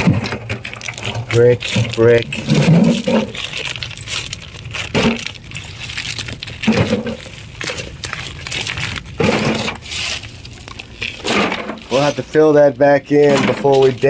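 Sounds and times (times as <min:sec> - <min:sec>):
rubble clinking and knocking: 0:00.0 - 0:14.0.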